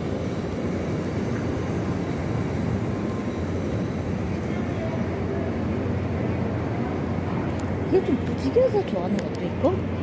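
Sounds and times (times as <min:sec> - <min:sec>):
train rumble and hum: 0:00.0 - 0:10.0.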